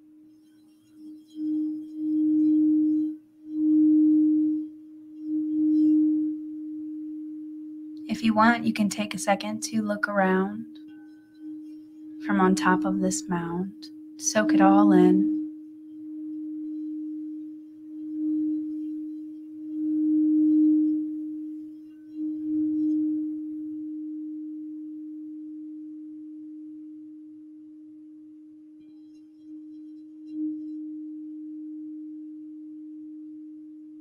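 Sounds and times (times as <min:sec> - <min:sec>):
crystal singing bowl ringing: 0:00.0 - 0:08.6, 0:10.1 - 0:34.0.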